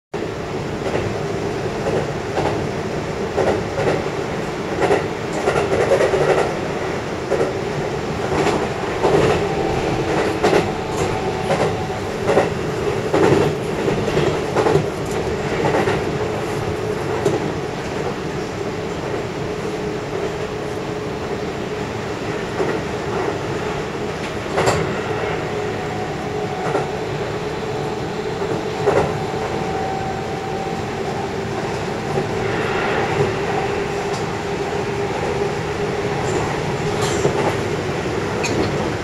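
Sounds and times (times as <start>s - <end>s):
electric train running hum: 0.2s - 39.0s.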